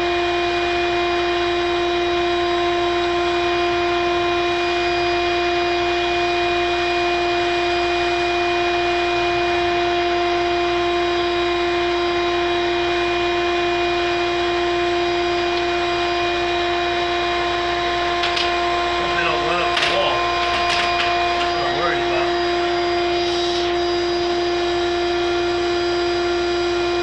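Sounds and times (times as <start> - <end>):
vacuum motor whine: 0.0 - 27.0.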